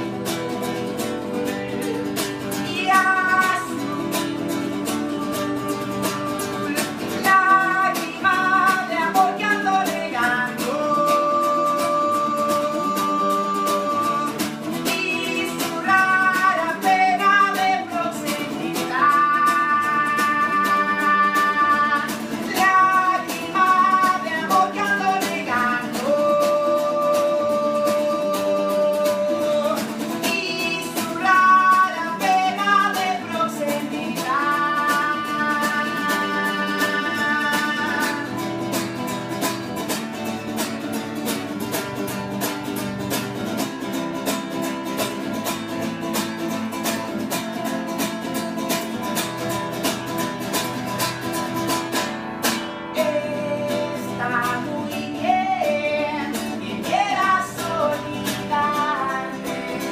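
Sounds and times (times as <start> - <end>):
person singing: 0.0 - 40.9, 41.5 - 59.9
guitar strumming: 0.0 - 59.9.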